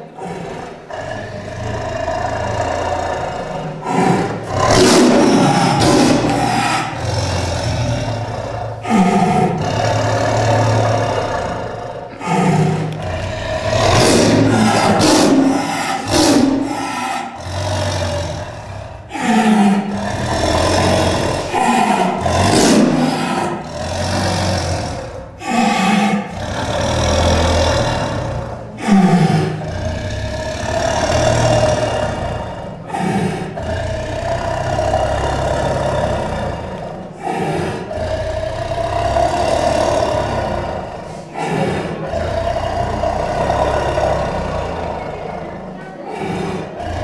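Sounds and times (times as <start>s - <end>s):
tiger snarling growl-roars: 0.0s - 47.0s.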